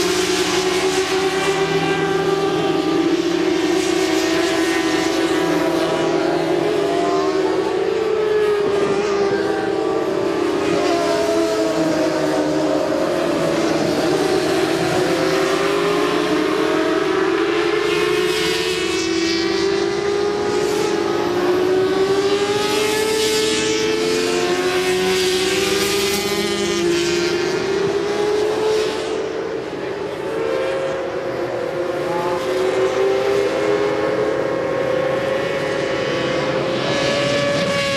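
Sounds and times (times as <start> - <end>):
racing motorcycles at high revs: 0.0 - 37.9.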